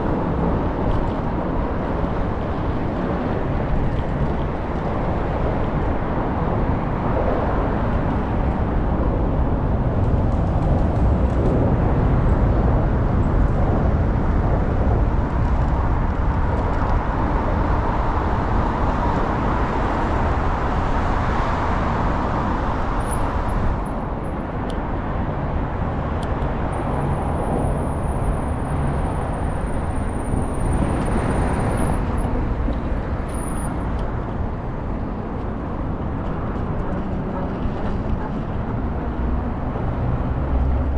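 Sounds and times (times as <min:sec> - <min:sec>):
bus rumble from inside: 0:00.0 - 0:40.9.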